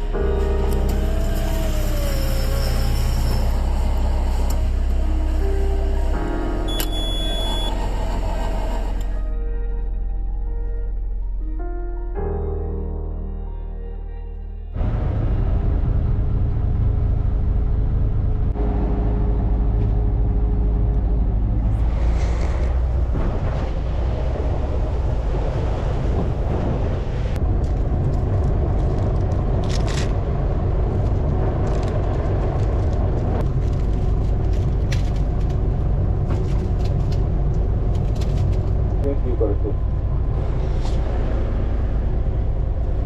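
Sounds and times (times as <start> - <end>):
boat engine rumbling: 0.0 - 10.4, 14.8 - 43.0.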